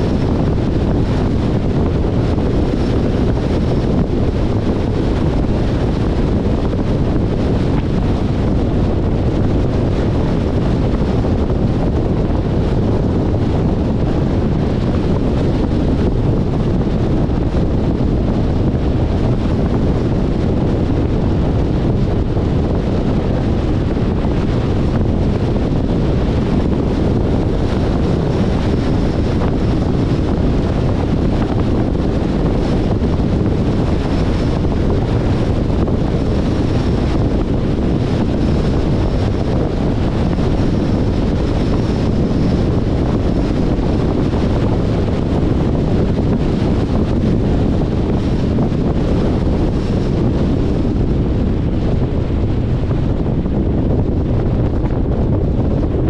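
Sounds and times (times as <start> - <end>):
car road noise: 0.0 - 56.0
wind rushing over microphone: 0.0 - 56.0.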